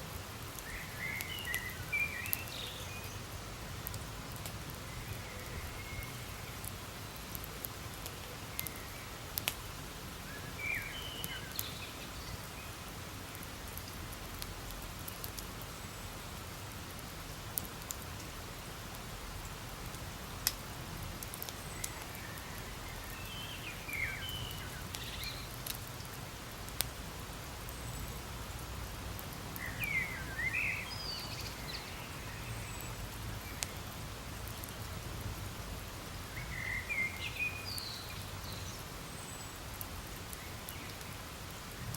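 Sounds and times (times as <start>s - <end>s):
campfire hissing and crackling: 0.0s - 41.9s.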